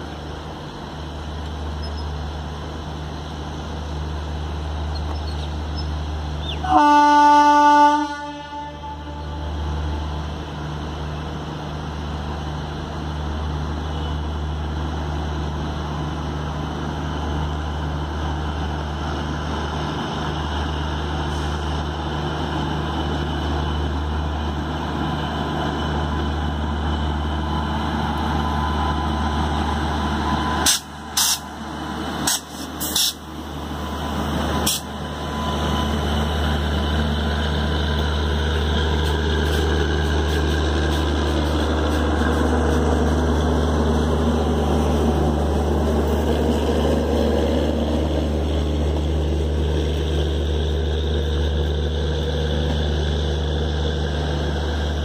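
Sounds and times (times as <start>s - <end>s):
electric locomotive hum: 0.0s - 55.0s
train coaches rumbling past: 0.0s - 55.0s.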